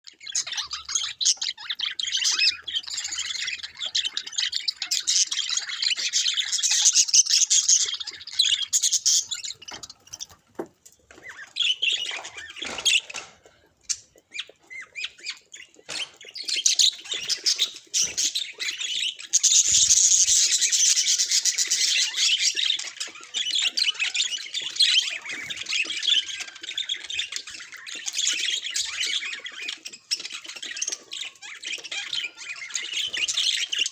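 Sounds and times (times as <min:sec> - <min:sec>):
budgerigars chattering: 0:00.1 - 0:10.4, 0:11.1 - 0:33.9.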